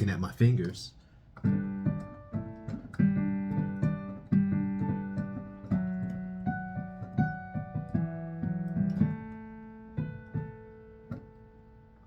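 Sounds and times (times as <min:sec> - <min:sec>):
electric keyboard notes: 0:01.4 - 0:12.0.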